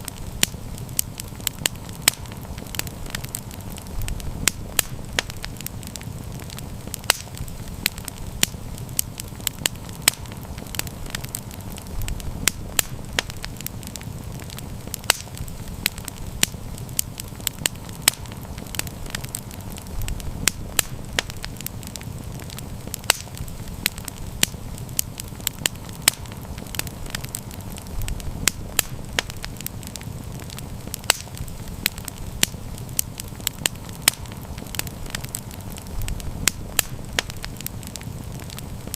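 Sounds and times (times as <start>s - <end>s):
campfire crackling and popping: 0.0s - 38.9s
low rumble of flame: 0.0s - 38.9s.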